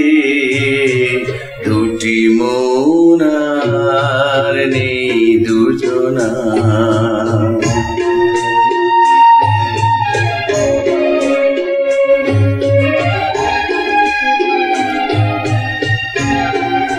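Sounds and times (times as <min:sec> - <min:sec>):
organ-like electronic keyboard music: 0:00.0 - 0:16.9.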